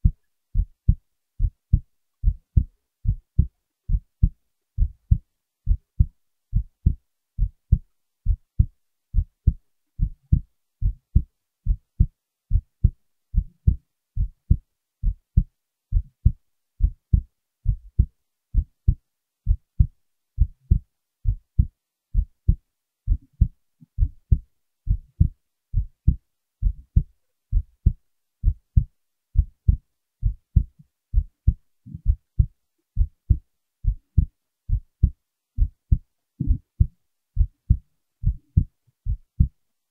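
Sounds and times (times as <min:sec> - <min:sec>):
heartbeat thumps: 0:00.0 - 0:39.6.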